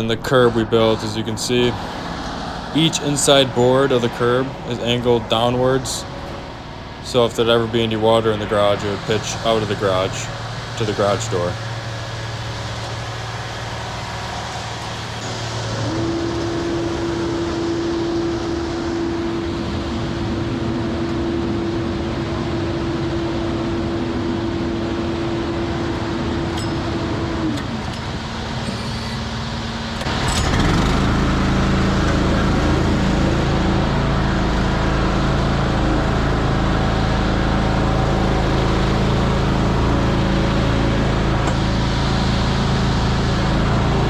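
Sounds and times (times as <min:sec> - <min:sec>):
diesel truck engine running: 0:00.0 - 0:44.0.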